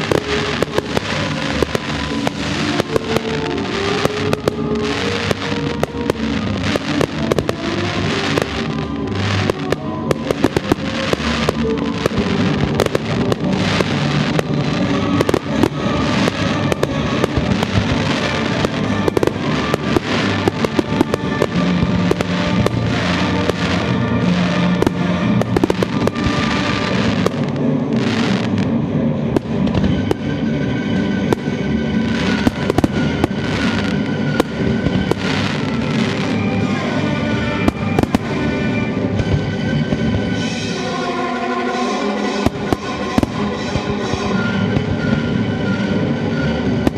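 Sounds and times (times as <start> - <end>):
fireworks bangs and crackles: 0.0 - 46.9
music playing: 0.0 - 46.9.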